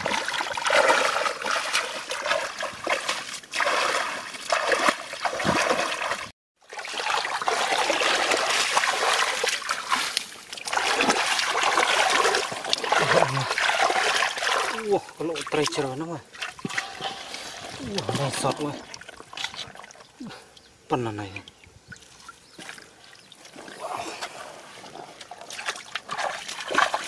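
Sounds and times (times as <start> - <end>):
hands splashing in muddy water: 0.0 - 20.0, 22.0 - 27.0.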